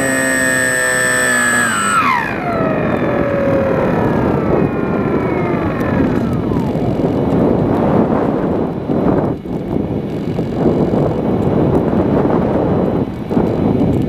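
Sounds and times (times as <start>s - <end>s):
electric motor and propeller whine: 0.0s - 14.0s
wind rushing over aircraft: 0.0s - 14.0s.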